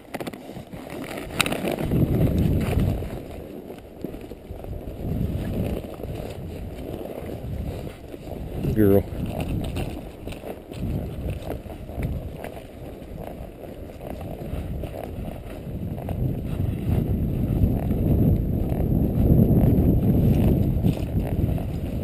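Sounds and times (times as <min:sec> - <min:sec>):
horse hoofsteps: 0:00.0 - 0:22.0
wind rumble on microphone: 0:00.0 - 0:22.0.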